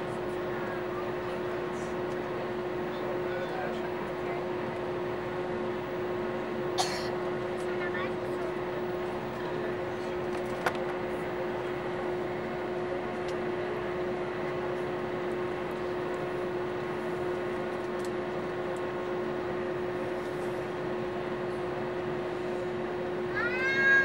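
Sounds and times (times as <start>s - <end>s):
aircraft cabin engine hum: 0.0s - 24.0s.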